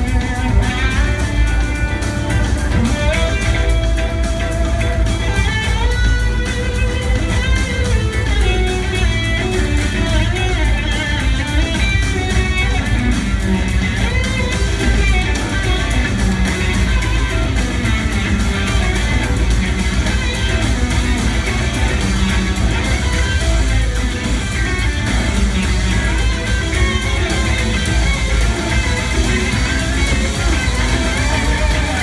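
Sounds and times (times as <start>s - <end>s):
electric guitar melody: 0.0s - 32.0s
loud bass: 0.0s - 32.0s
steady drum beat: 0.0s - 32.0s.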